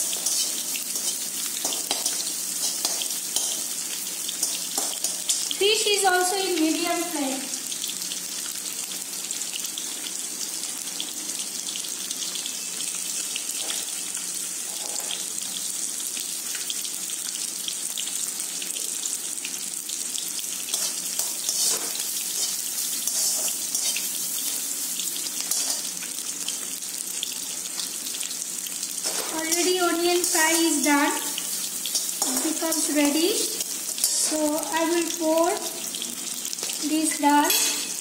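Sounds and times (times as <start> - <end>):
food sizzling in oil: 0.0 - 38.0.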